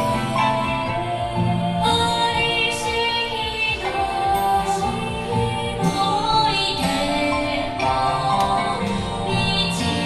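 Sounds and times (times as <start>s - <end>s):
dance music over sound system: 0.0s - 10.0s
woman singing: 0.0s - 10.0s.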